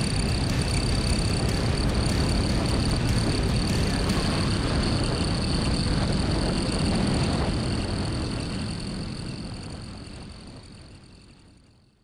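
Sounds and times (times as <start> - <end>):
motorcycle engine whine: 0.0 - 10.9
wind noise: 0.0 - 11.6.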